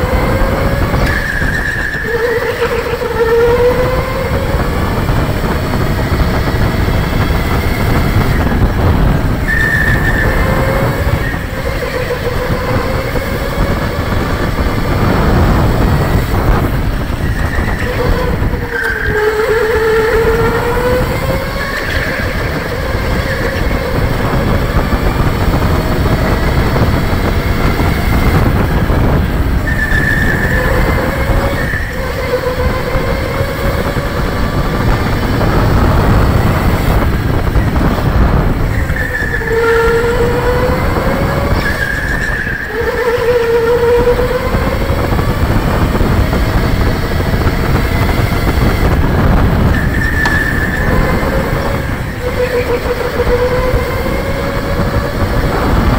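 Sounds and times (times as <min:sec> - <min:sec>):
electric motor whining: 0:00.0 - 0:55.9
loud steady rumble: 0:00.0 - 0:55.9.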